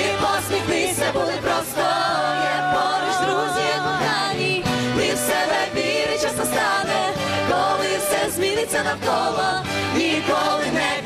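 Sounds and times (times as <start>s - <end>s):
vocal ensemble singing pop song: 0.0s - 11.0s.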